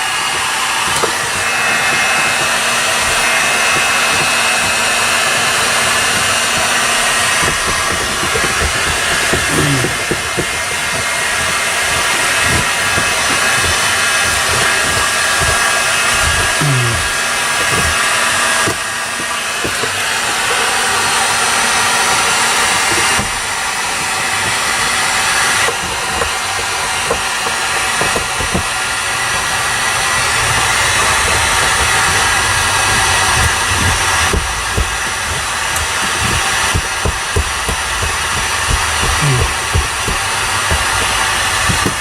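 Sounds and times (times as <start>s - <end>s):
heat gun blowing: 0.0s - 42.0s.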